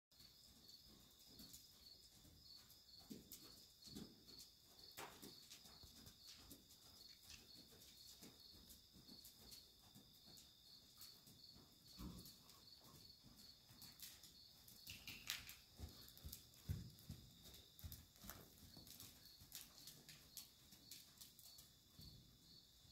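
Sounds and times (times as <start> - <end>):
high pulsing insect chirp: 0.2 - 22.9
horse hooves walking on sand: 0.2 - 22.9.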